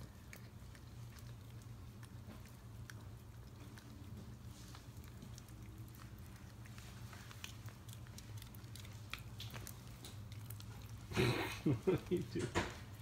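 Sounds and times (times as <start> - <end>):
dog licking lips: 0.0 - 13.0.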